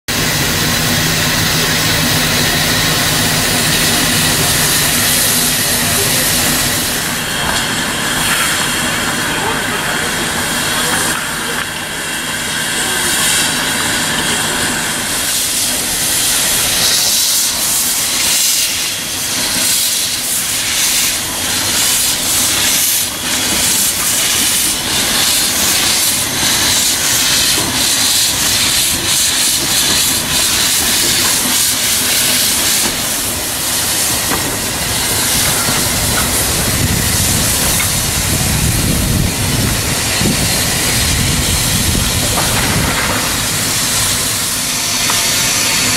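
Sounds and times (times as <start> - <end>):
hissing steam: 0.1 - 45.9
steam locomotive exhaust chuffs: 0.1 - 45.9
train rumbling on rails: 0.1 - 45.9.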